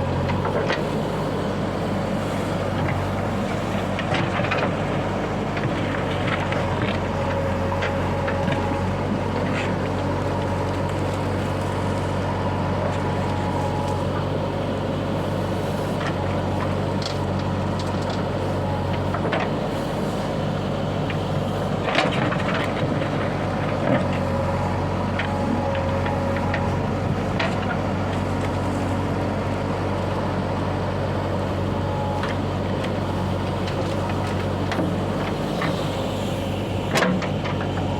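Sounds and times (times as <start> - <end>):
diesel engine running under load: 0.0 - 37.9.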